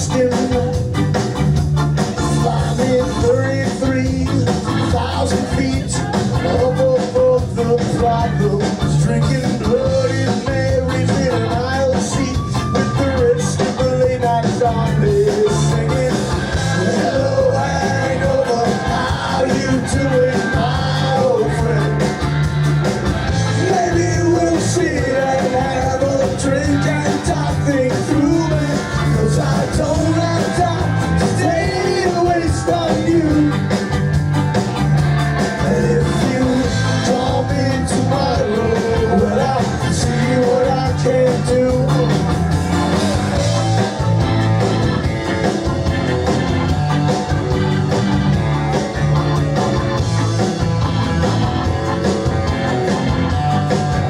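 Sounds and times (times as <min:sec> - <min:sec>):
live band playing reggae-punk: 0:00.0 - 0:54.0
melodic lead line: 0:00.0 - 0:54.0
repeating bass line: 0:00.0 - 0:54.0.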